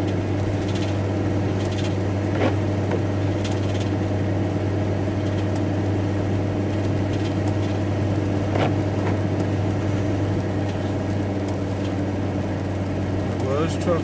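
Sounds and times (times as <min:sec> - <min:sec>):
engine and road drone: 0:00.0 - 0:14.0.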